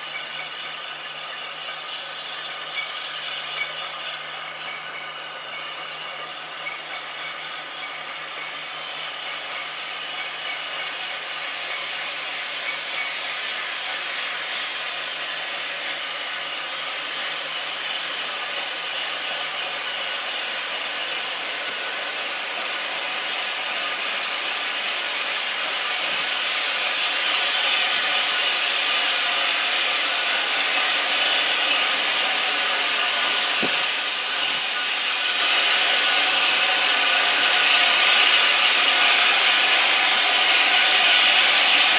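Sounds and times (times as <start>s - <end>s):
steam locomotive hissing: 0.0s - 41.9s.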